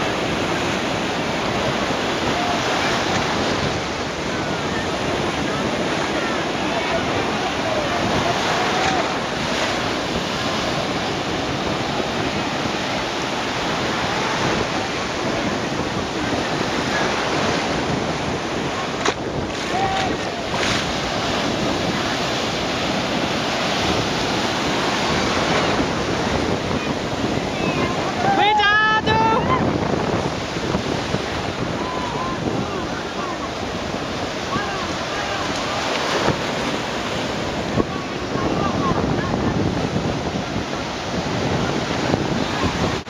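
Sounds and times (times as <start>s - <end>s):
surf breaking in shallow water: 0.0s - 43.0s
wind buffeting microphone: 0.0s - 43.0s.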